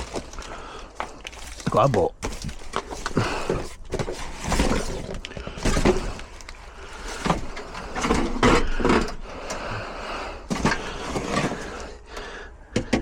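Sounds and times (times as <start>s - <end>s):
tools and cans clattering: 0.0s - 9.6s, 10.4s - 13.0s.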